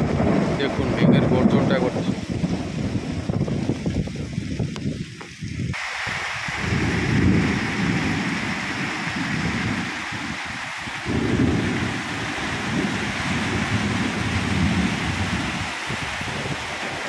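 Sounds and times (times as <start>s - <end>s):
low rolling thunder: 0.0s - 5.2s, 6.4s - 17.0s
rain falling: 0.0s - 17.0s.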